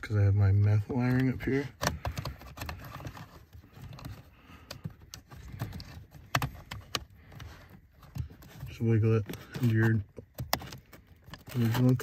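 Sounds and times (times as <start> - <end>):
wiring rustling: 0.5 - 12.0
plastic clicks and knocks: 1.2 - 11.6.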